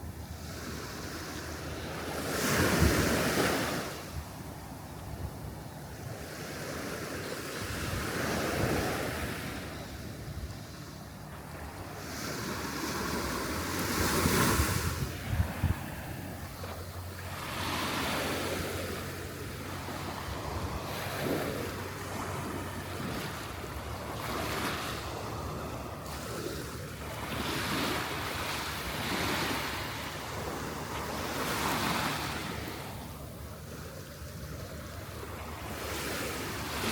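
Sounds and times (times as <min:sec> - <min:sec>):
wind rumbling on microphone: 0:00.0 - 0:36.9.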